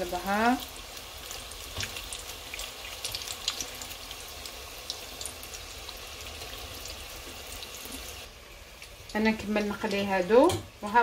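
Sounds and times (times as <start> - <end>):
oil crackles: 0.0 - 9.3
pastries sizzling in hot oil: 0.0 - 11.0.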